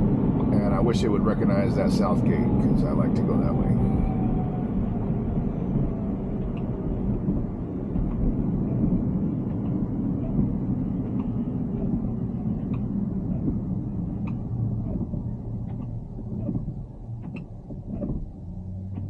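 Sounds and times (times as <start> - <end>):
tyre and road noise: 0.0 - 19.0.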